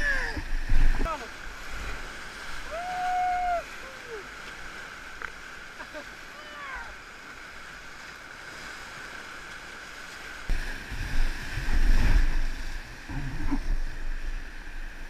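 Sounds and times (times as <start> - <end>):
whitewater rushing: 0.0 - 15.0.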